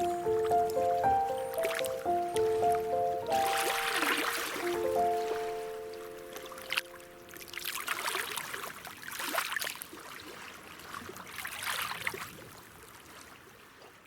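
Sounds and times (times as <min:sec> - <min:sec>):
water trickling and splashing: 0:00.0 - 0:14.0.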